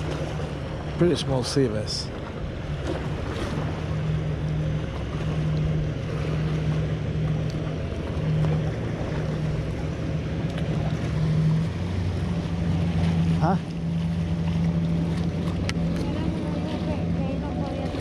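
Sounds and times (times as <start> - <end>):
boat motor droning: 0.0 - 18.0
water: 0.0 - 18.0
wind: 0.0 - 18.0.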